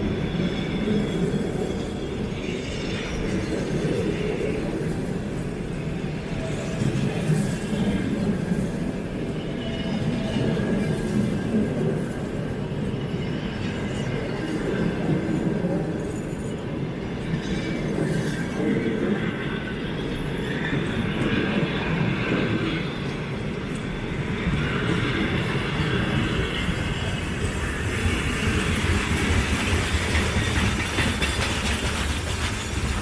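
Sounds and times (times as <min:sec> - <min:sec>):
steel wheels rolling on rails: 0:00.0 - 0:33.0.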